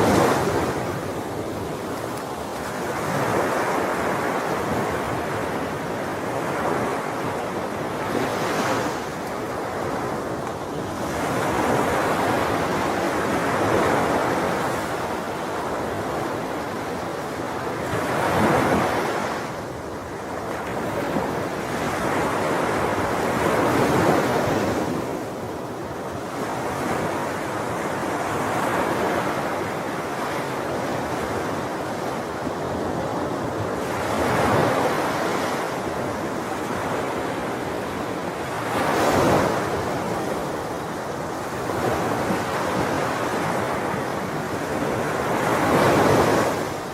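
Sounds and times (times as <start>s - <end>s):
sea waves washing in: 0.0s - 46.9s.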